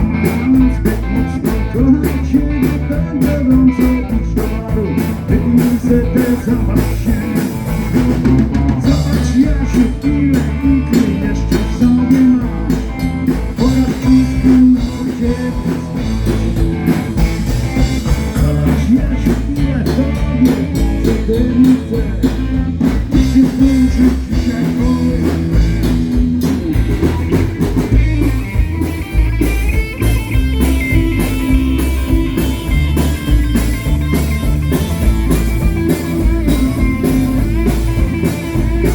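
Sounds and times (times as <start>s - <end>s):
live blues-rock band: 0.0s - 38.9s.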